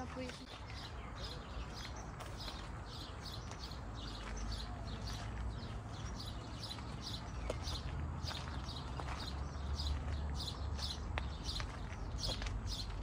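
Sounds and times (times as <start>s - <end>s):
footsteps crunching on gravel: 0.0s - 13.0s.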